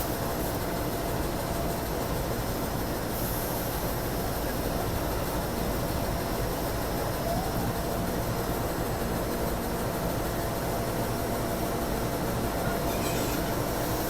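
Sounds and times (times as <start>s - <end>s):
train rail rumble and hiss: 0.0s - 14.0s.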